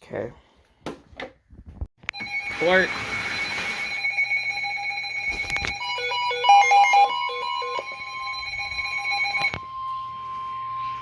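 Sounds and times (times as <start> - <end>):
long steady warning alarm tone: 2.1 - 11.0
alternating high and low beeps: 2.2 - 11.0
steady electronic alert tones: 2.2 - 11.0.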